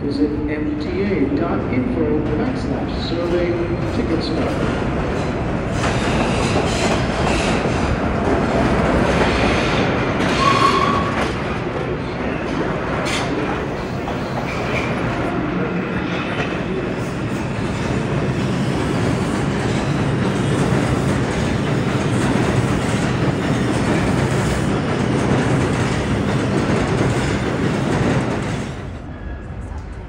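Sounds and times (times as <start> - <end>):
subway train wheels on rail: 0.0 - 30.0.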